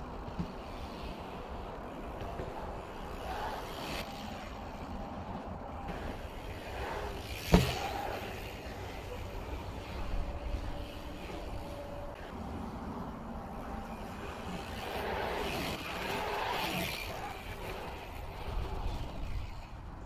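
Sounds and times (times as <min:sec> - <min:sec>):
bicycle tyres rolling on asphalt: 0:00.0 - 0:20.0.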